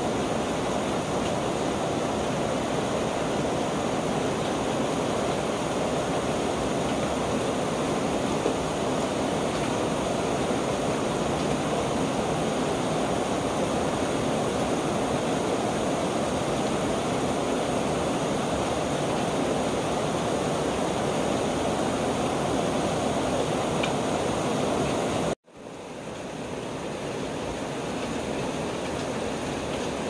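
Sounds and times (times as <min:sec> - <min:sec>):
rain pouring on wet pavement: 0:00.1 - 0:24.9, 0:26.0 - 0:30.0.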